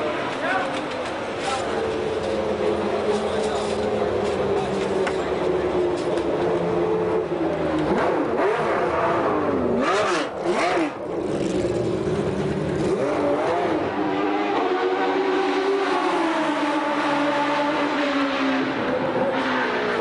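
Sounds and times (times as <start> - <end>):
racing car engine revving: 1.5 - 20.0.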